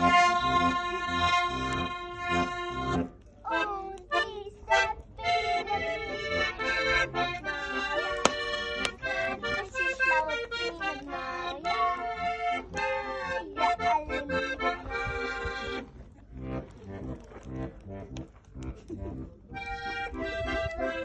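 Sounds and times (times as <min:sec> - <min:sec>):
button accordion playing folk tune: 0:00.0 - 0:21.0.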